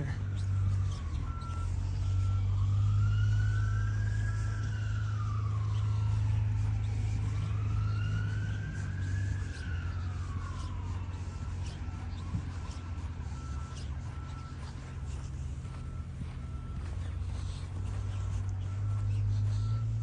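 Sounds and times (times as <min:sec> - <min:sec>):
emergency siren wailing: 0:00.0 - 0:20.0
truck engine idling: 0:00.0 - 0:20.0
truck reversing beeps: 0:00.0 - 0:20.0.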